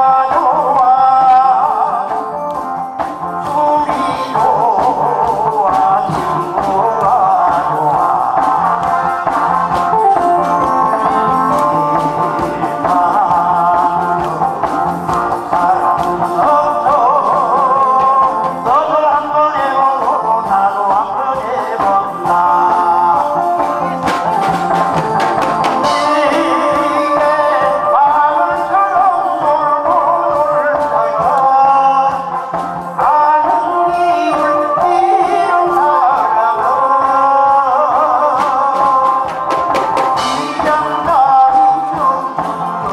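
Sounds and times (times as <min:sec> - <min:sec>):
amplified backing track: 0:00.0 - 0:42.9
man singing into a microphone: 0:00.0 - 0:42.9.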